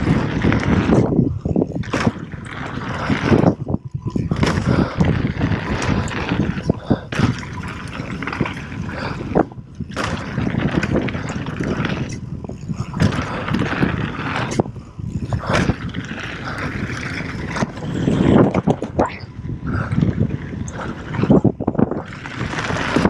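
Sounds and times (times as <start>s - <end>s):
bike rattling over bumps: 0.0s - 23.0s
wind buffeting microphone: 0.0s - 23.0s.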